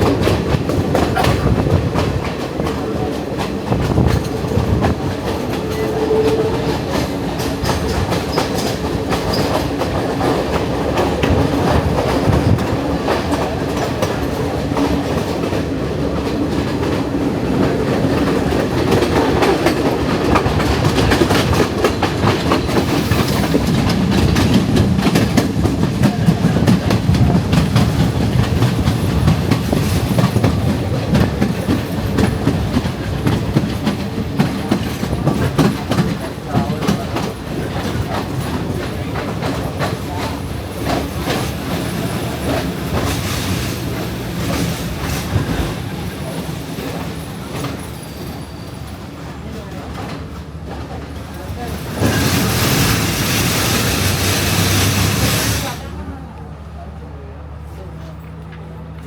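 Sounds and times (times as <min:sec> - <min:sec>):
train wheels clattering over rails: 0:00.0 - 0:56.2.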